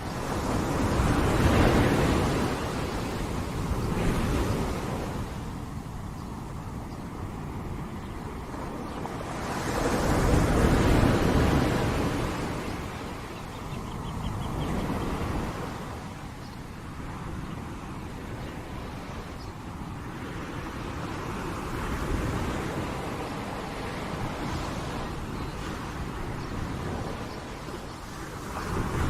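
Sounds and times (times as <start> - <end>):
ocean waves crashing: 0.0 - 29.0.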